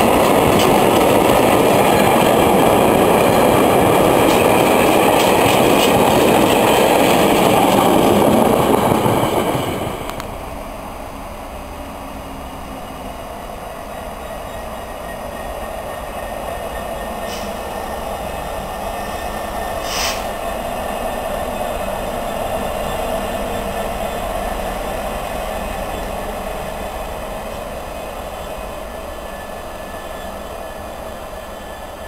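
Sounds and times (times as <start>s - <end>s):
diesel locomotive rumbling past: 0.0s - 32.0s.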